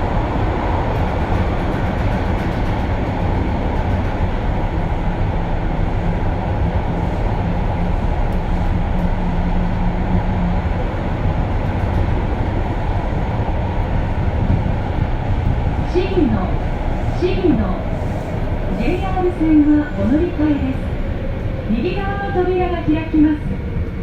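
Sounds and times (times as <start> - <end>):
subway train wheels rumbling: 0.0 - 24.0.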